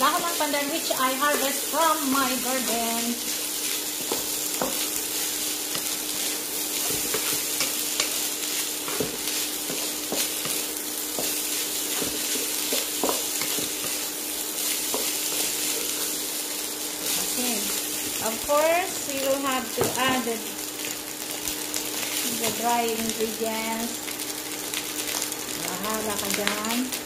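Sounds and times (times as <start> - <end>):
rice sizzling in a pan: 0.0 - 27.0.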